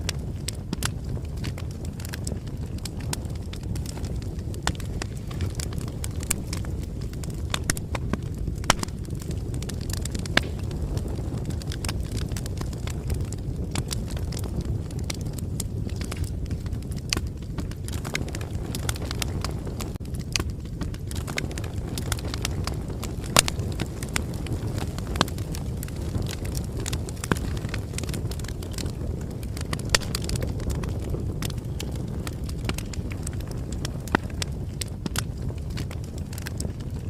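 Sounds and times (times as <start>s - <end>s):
bonfire crackling: 0.0s - 37.0s
fire popping and snapping: 0.0s - 37.0s.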